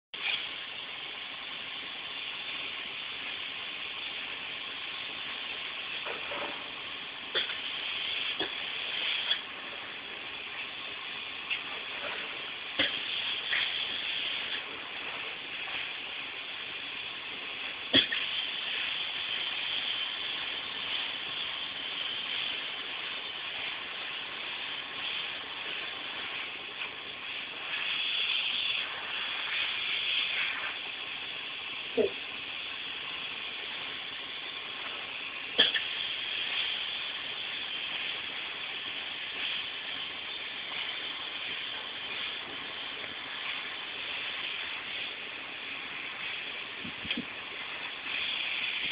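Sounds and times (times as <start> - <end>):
foam spray gun hissing: 0.2 - 48.9.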